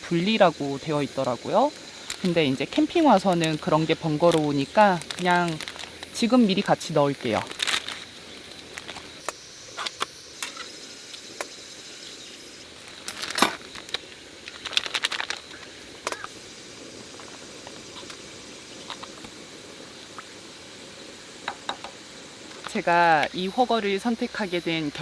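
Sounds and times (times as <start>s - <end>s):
low steady hiss: 0.0s - 25.0s.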